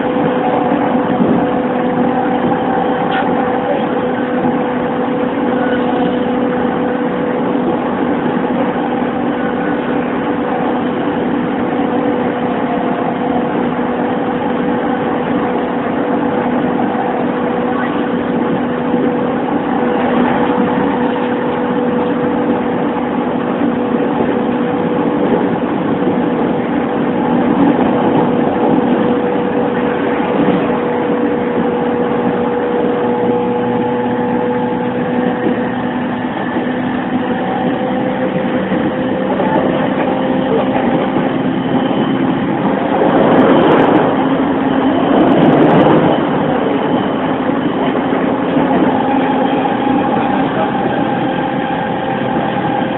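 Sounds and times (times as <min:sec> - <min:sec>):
train motor hum: 0:00.0 - 0:52.9
wheel-on-rail rumble: 0:00.0 - 0:52.9.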